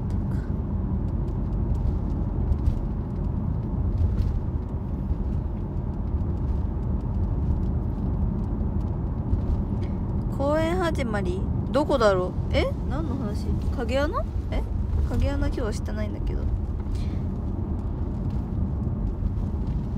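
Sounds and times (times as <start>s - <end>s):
low background rumble: 0.0s - 19.9s.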